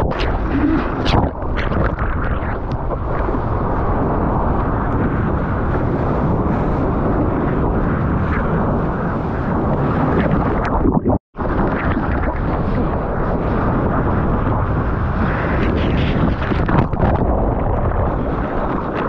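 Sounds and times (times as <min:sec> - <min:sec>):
wind buffeting: 0:00.0 - 0:19.0.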